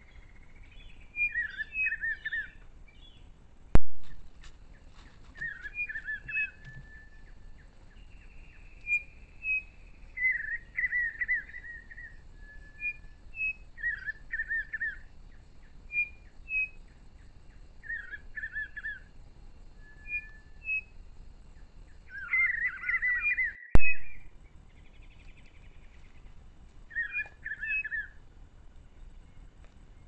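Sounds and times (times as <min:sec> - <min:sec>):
birds warbling: 0:00.0 - 0:03.4, 0:04.0 - 0:30.0.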